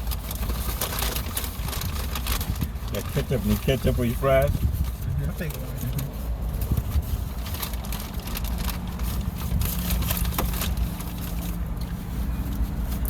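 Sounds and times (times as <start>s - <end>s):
food packaging crackling: 0.0s - 4.8s, 5.4s - 13.0s
low hum inside a car: 0.0s - 13.0s.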